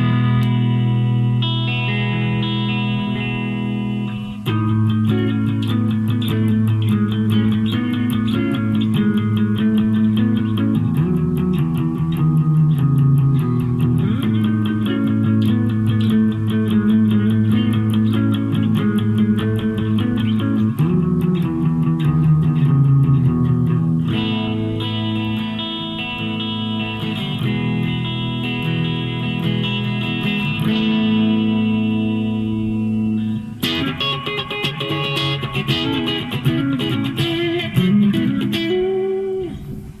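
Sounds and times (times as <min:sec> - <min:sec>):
clean electric guitar: 0:00.0 - 0:40.0.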